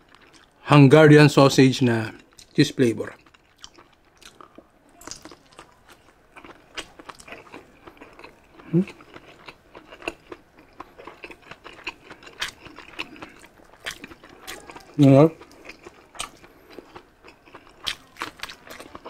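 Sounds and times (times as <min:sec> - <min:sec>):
person chewing food: 0:00.0 - 0:00.6, 0:03.1 - 0:19.0.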